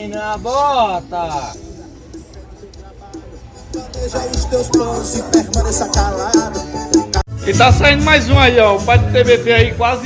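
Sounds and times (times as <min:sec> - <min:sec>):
loud music with heavy bass: 0:01.3 - 0:10.0.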